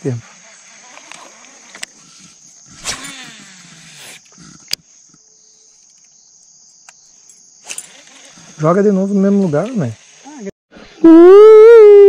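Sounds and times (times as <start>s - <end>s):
insects buzzing: 0.0s - 10.5s.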